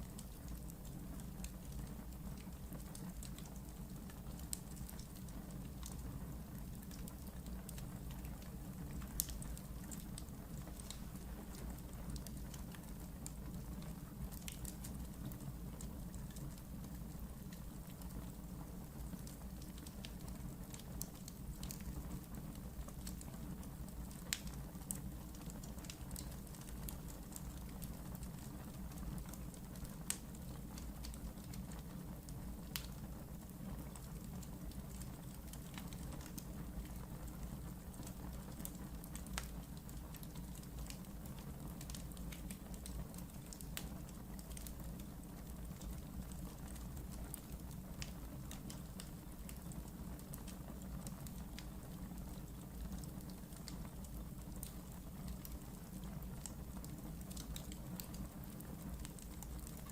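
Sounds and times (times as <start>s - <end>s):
wood fire crackling: 0.0s - 59.9s
fire flames rumbling: 0.1s - 59.9s.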